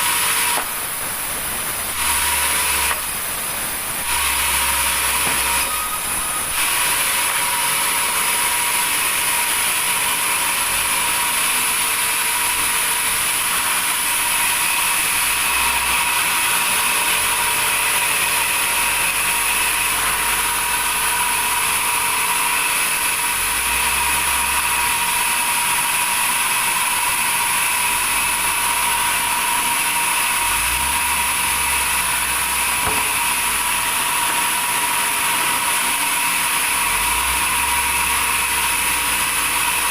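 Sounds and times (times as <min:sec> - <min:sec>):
saw cutting through wood: 0:00.0 - 0:39.9.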